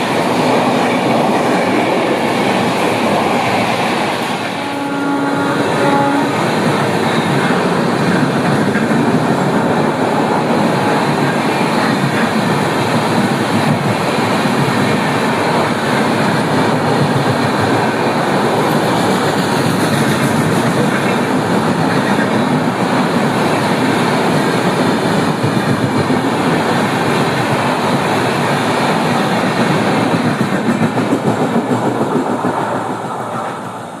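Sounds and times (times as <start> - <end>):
train wagons rattling over rails: 0.0 - 34.0.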